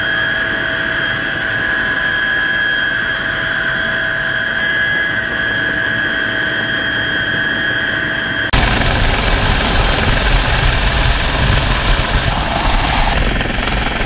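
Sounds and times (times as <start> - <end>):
helicopter engine and rotor noise: 0.0 - 14.0
high turbine whine: 0.0 - 14.0.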